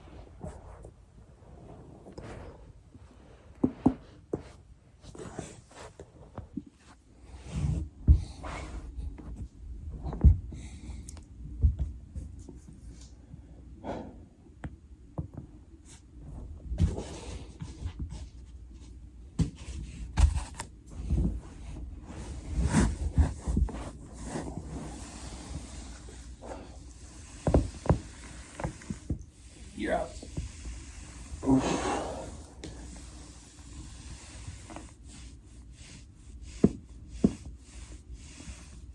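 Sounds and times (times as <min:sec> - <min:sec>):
body shifting on foam roller: 0:00.0 - 0:14.0, 0:15.3 - 0:38.9.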